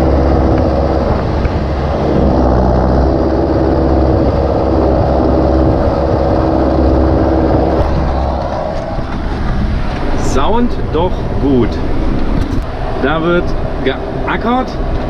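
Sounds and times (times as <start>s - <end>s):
tractor engine under load: 0.0s - 12.6s.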